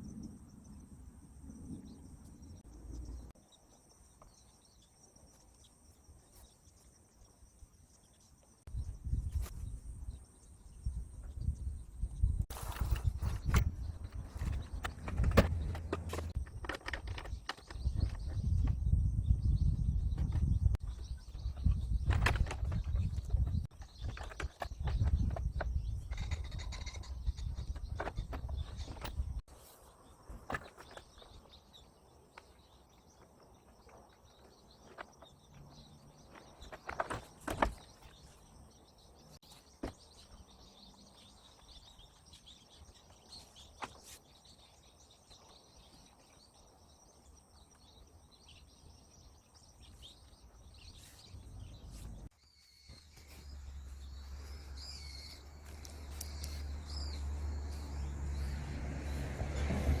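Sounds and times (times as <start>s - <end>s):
birds chirping: 1.6s - 60.0s.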